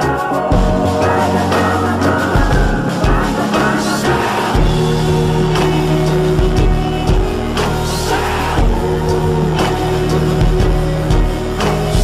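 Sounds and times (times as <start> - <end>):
song with singing over bass: 0.0 - 12.0.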